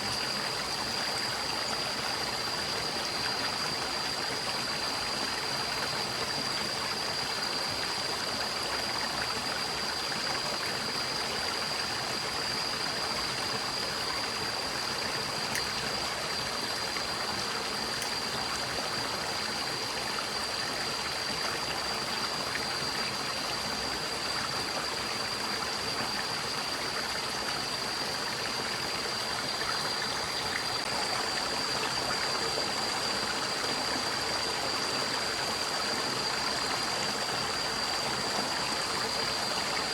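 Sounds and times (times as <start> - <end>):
stream rushing and gurgling: 0.0 - 39.9.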